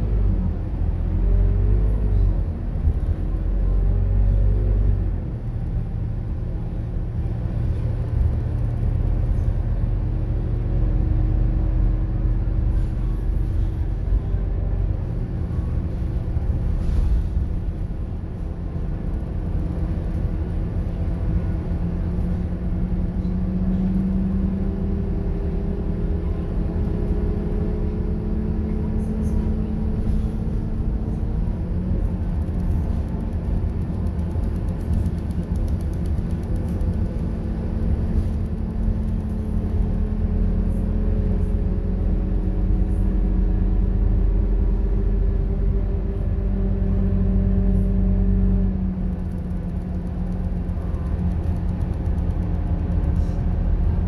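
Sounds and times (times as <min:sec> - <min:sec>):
bus engine rumbling: 0:00.0 - 0:54.0.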